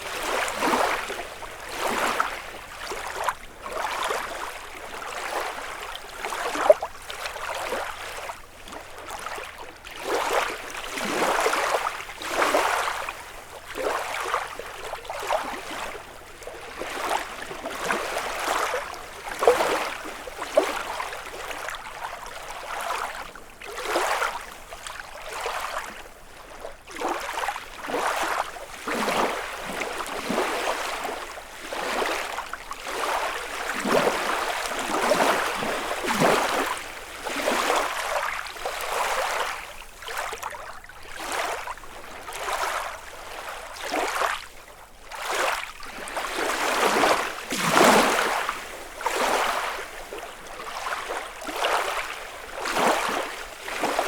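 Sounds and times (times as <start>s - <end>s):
lake waves lapping on shore: 0.0s - 54.0s.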